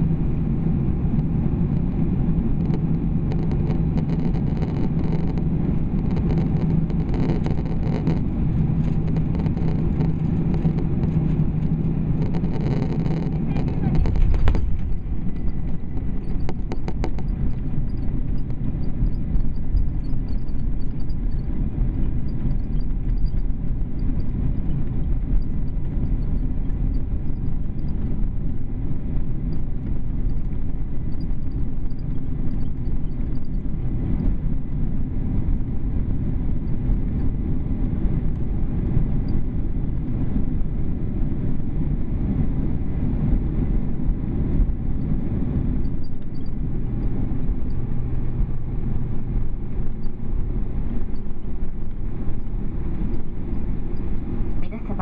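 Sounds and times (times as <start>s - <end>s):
airliner engines and wheels rumbling: 0.0s - 55.0s.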